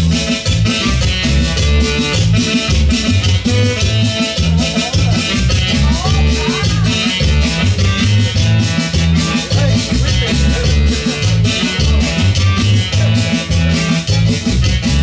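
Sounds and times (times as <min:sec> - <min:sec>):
latin dance music: 0:00.0 - 0:15.0
shaken percussion: 0:00.0 - 0:15.0.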